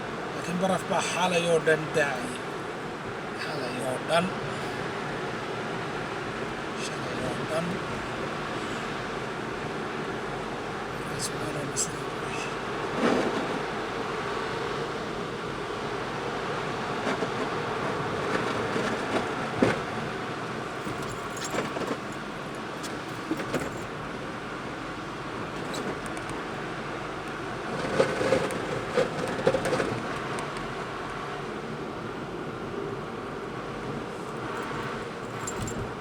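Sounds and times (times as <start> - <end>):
road noise inside car: 0.0 - 36.0.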